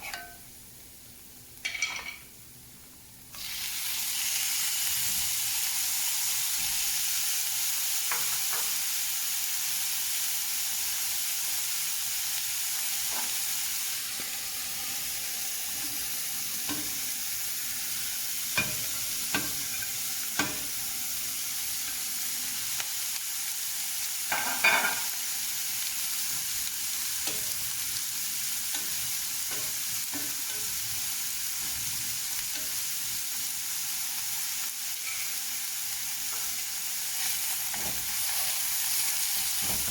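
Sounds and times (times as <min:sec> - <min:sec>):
vegetables sizzling in hot oil: 0:03.2 - 0:39.9.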